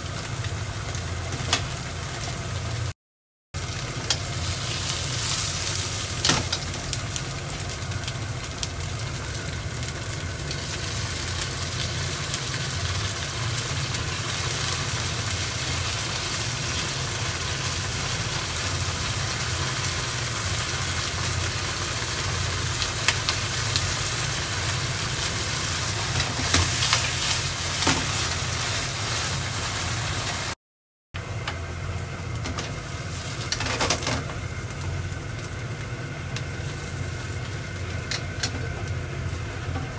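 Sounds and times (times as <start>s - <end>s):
tofu sizzling in oil: 0.0s - 2.9s, 3.6s - 30.6s, 31.3s - 39.9s.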